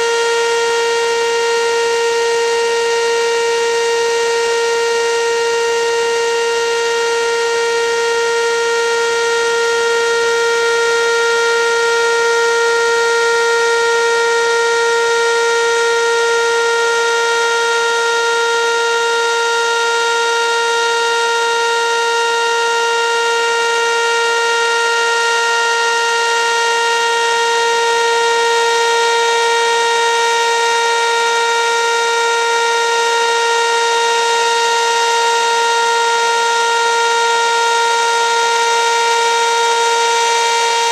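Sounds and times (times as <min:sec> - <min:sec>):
steady siren alert tone: 0:00.0 - 0:40.9.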